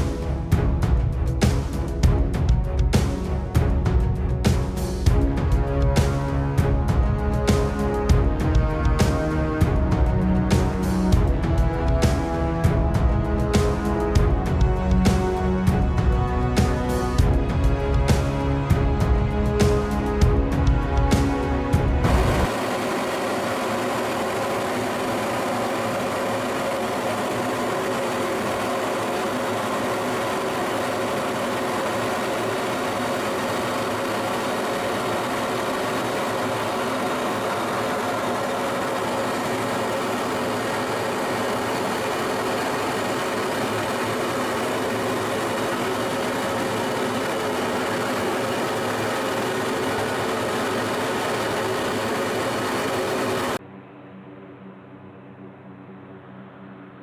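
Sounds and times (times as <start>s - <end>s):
fighter jet engine running: 0.0s - 53.6s.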